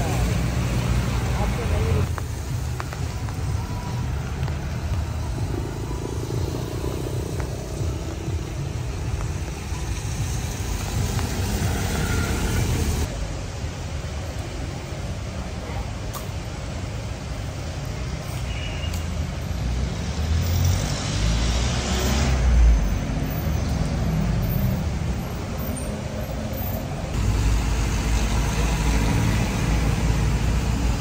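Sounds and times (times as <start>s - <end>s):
heavy low engine rumble: 0.0s - 18.4s, 24.1s - 31.0s
tyres hissing on wet road: 0.0s - 31.0s
vehicle engines running: 0.0s - 31.0s.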